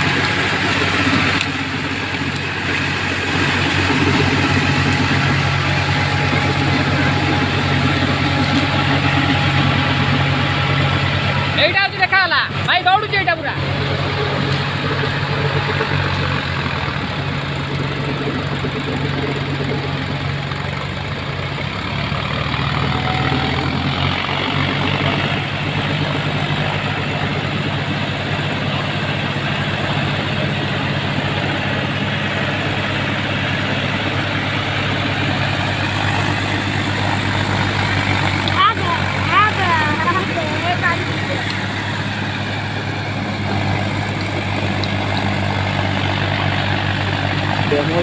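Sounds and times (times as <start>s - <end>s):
diesel tractor engines running: 0.0s - 48.0s.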